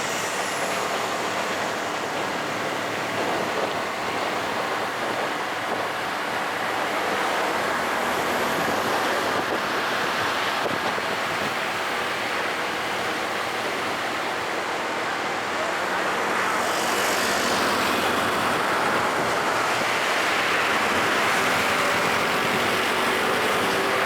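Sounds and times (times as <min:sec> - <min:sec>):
wind noise on microphone: 0:00.0 - 0:15.1, 0:16.6 - 0:24.0
train rushing by: 0:00.0 - 0:24.0.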